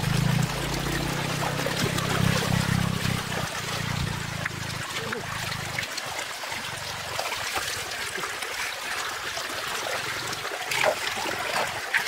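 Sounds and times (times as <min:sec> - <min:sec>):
splashing in water: 0:00.0 - 0:12.0
water trickling: 0:00.0 - 0:12.0.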